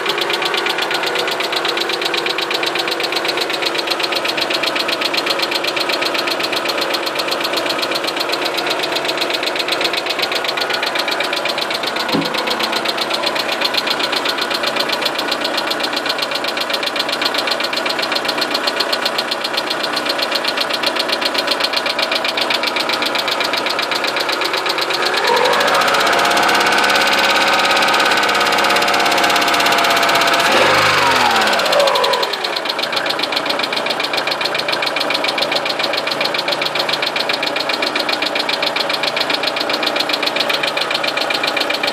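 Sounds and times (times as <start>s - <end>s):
engine running with rapid knock: 0.0s - 41.9s.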